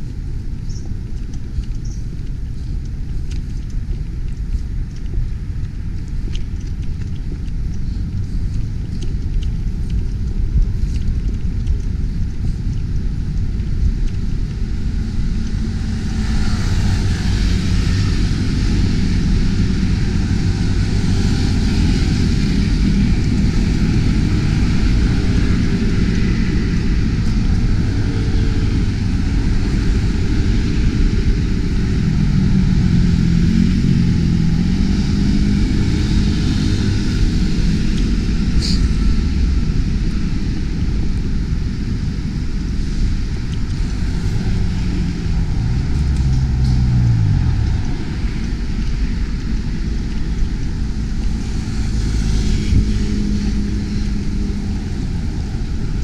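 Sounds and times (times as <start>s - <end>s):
low rumble of traffic: 0.0s - 56.0s.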